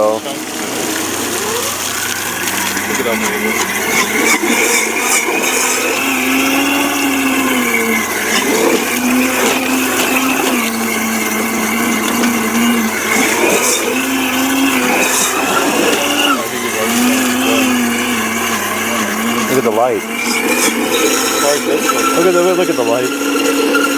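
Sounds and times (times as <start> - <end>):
vacuum cleaner motor whine: 0.0 - 23.9.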